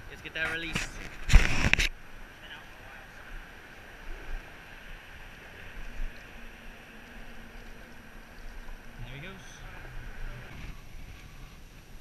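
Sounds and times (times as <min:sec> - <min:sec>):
river water: 0:00.0 - 0:12.0
wind: 0:00.0 - 0:12.0
faint engine hum: 0:02.0 - 0:12.0.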